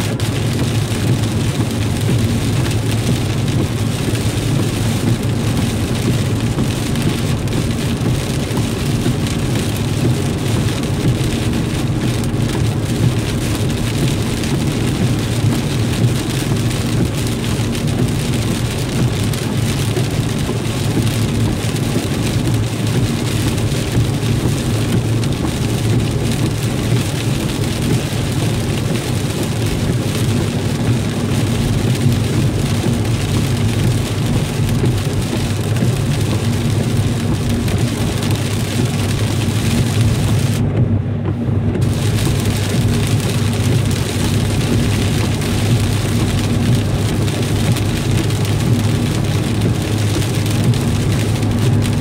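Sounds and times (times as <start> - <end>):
low road drone: 0.0 - 52.0
rain on a car: 0.0 - 52.0
tyres on wet road: 0.0 - 52.0.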